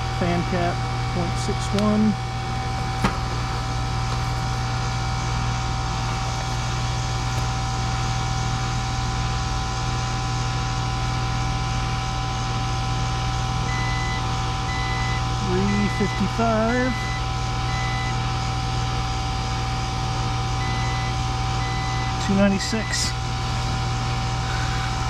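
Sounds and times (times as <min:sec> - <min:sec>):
air conditioner unit humming: 0:00.0 - 0:25.0.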